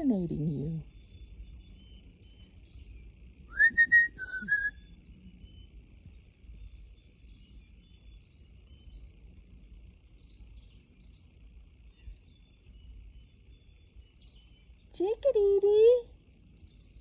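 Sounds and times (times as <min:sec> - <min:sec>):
chickadees chirping: 0:00.0 - 0:17.0
steady low rumble: 0:00.0 - 0:17.0.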